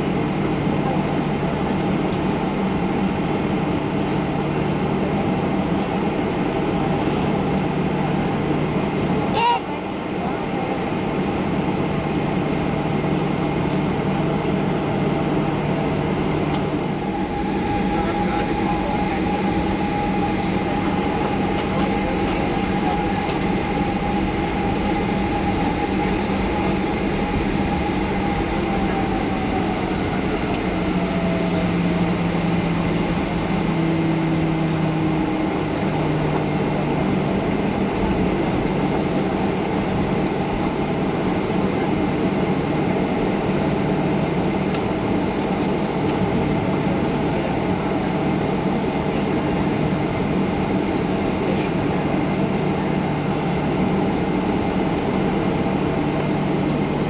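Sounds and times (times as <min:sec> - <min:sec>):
airliner rolling rumble: 0:00.0 - 0:57.0
jet engines whining: 0:00.0 - 0:57.0.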